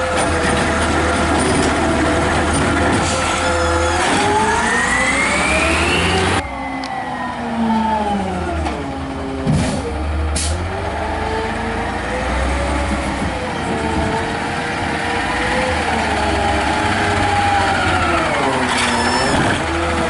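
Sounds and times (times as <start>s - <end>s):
garbage truck engine revving: 0.0s - 6.6s, 7.3s - 20.0s
truck driving along: 0.0s - 20.0s.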